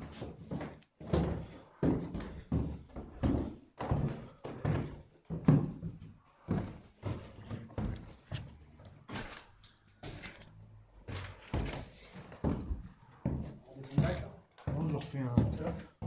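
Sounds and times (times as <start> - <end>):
heavy footsteps going downstairs: 0.0 - 16.0.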